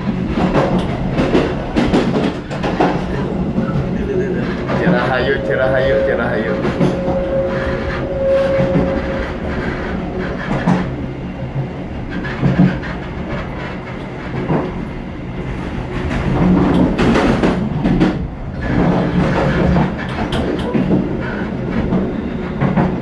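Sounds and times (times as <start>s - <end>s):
wheels clattering over rail joints: 0.0s - 5.2s, 8.7s - 23.0s
train rumbling on track: 0.0s - 23.0s.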